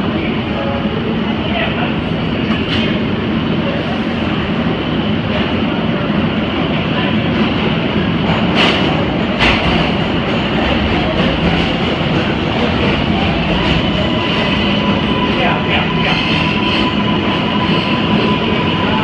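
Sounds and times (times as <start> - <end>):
subway train wheels rumbling on rail: 0.0 - 19.0.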